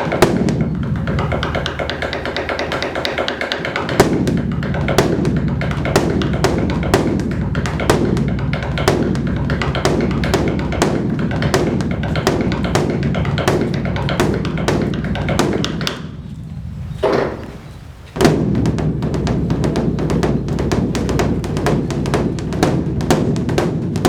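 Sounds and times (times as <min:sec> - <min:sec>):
large drum beaten with sticks: 0:00.0 - 0:17.5, 0:18.1 - 0:24.0.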